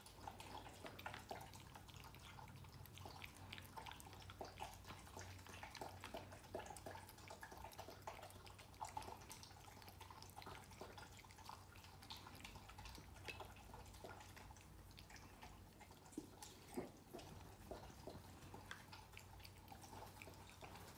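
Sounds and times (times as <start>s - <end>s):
animals chewing and licking food: 0.0s - 20.9s.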